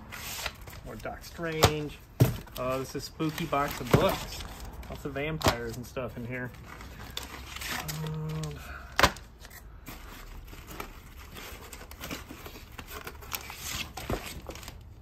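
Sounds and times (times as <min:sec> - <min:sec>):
rustling of plastic and cardboard: 0:00.0 - 0:15.0.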